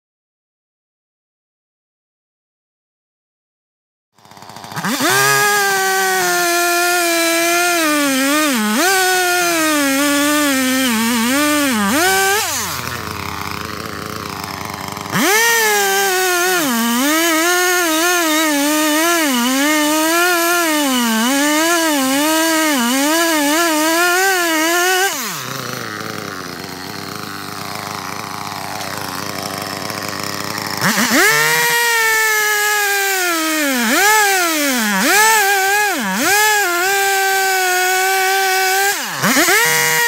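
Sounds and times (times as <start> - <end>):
chainsaw cutting wood: 4.2 - 40.0.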